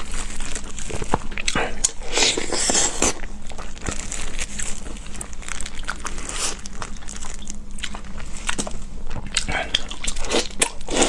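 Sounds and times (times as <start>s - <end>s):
biting and chewing meat: 0.0s - 11.0s
crinkly crackling noises: 0.0s - 11.0s.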